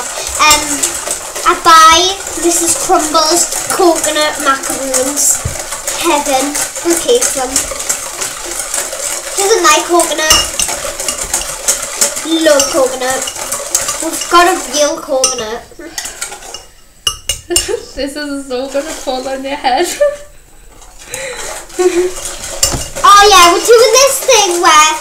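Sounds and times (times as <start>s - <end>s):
utensil clinking in metal bowl: 0.0s - 17.8s, 21.1s - 25.0s.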